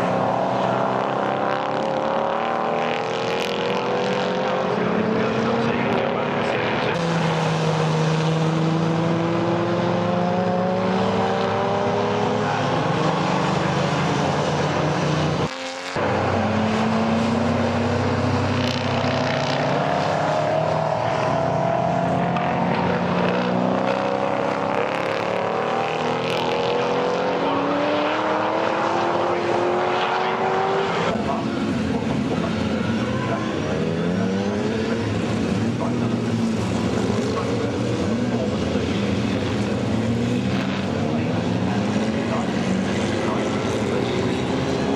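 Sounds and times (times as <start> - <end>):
race car engine accelerating: 0.0 - 44.9.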